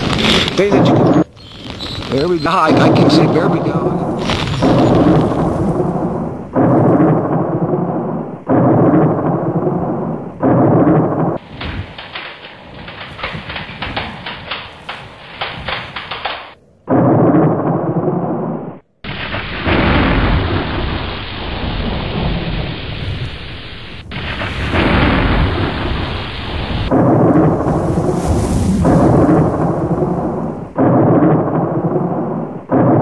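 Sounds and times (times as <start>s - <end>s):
rain: 0.0s - 9.8s, 10.5s - 16.6s, 19.1s - 32.4s
lightning striking nearby: 0.0s - 33.0s
thunder rumbling: 0.0s - 33.0s.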